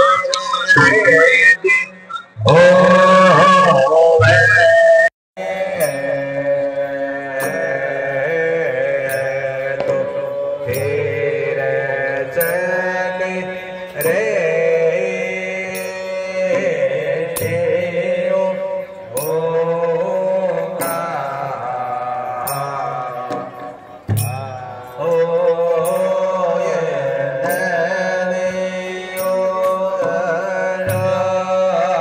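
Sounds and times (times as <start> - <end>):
devotional chant melody: 0.0 - 32.0
sharp percussion strikes: 5.4 - 32.0.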